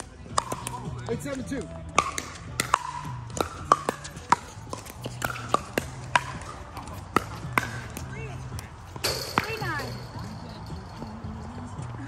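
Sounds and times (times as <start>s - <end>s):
paddles hitting ball: 0.0s - 11.2s.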